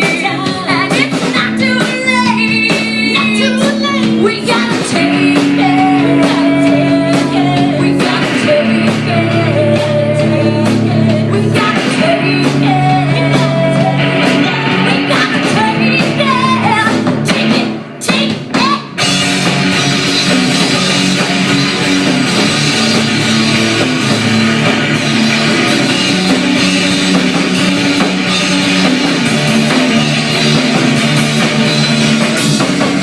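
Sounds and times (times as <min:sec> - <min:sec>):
distorted electric guitar: 0:00.0 - 0:33.0
drum kit: 0:00.0 - 0:33.0.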